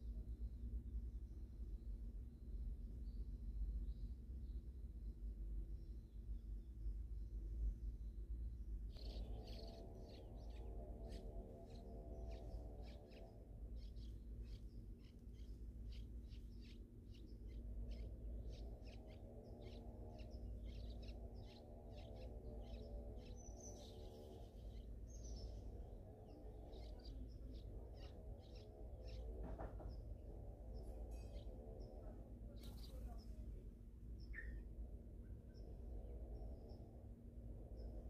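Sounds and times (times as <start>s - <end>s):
low wavering hum: 0.0s - 38.0s.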